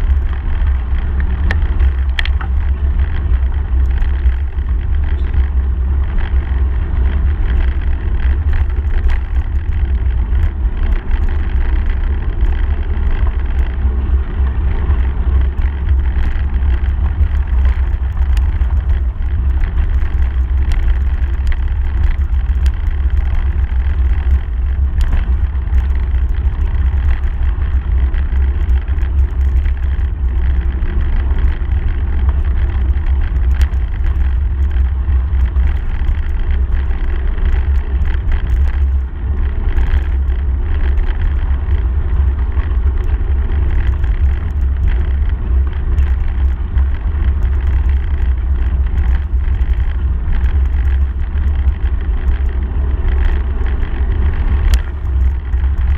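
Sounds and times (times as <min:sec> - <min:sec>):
bicycle tyres on gravel: 0:00.0 - 0:55.9
bike and stones clicking and rattling: 0:00.0 - 0:55.9
wind buffeting microphone: 0:00.0 - 0:55.9.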